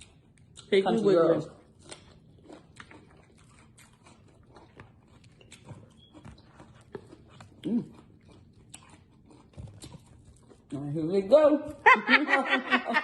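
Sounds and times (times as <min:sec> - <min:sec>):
crunching and chewing: 0:00.0 - 0:11.8.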